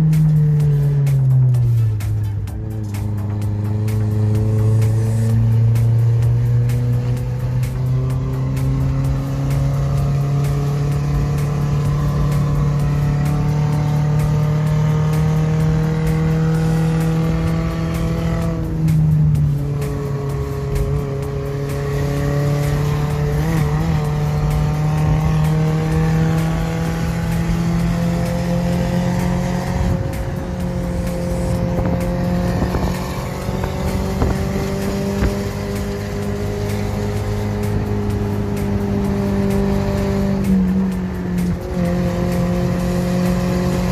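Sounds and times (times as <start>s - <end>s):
engine pulling with gear shifts: 0.0s - 43.9s.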